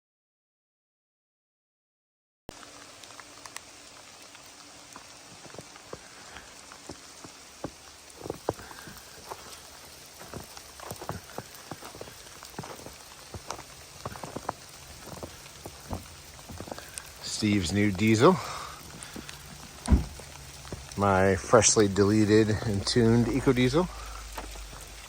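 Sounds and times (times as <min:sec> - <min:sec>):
rain drops ticking: 0:02.5 - 0:25.0
steady rain hiss: 0:02.5 - 0:25.0.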